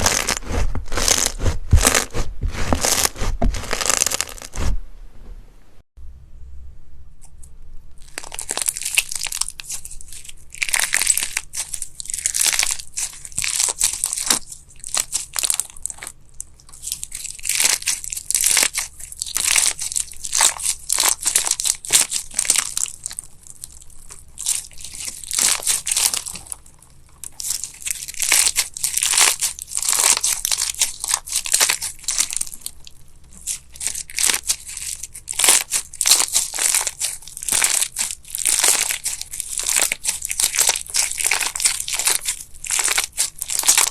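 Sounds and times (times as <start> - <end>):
crunchy slime squished: 0.0 - 4.8, 8.0 - 43.9.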